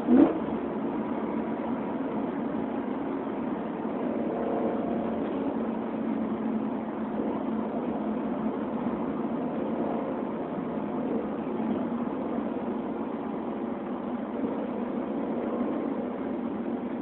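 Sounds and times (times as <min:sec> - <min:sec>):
car engine revving: 0:00.0 - 0:17.0
car exhaust droning: 0:00.0 - 0:17.0.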